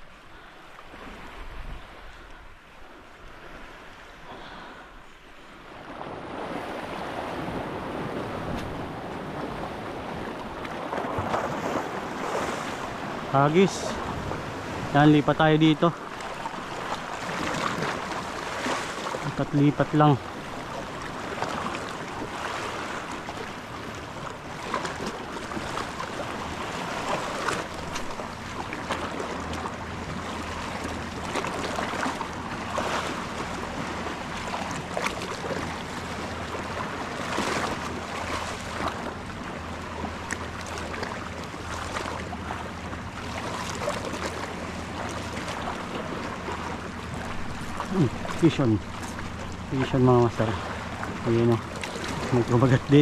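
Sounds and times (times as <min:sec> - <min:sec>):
waves lapping against rocks: 0:00.0 - 0:53.0.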